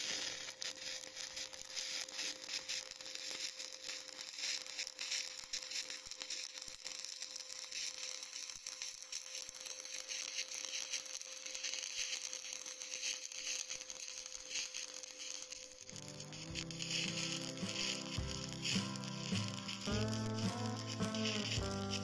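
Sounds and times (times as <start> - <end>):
welding arc crackling hiss: 0.0 - 22.0.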